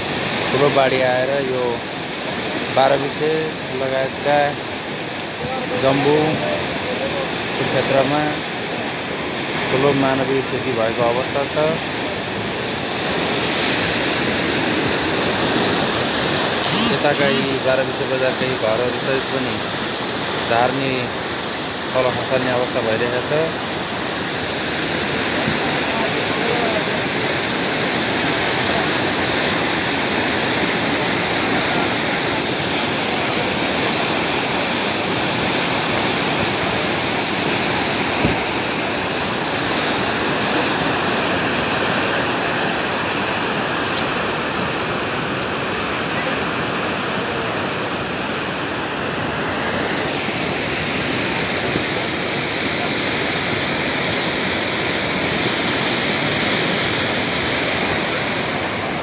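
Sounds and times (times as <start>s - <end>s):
river torrent rushing: 0.0s - 59.0s.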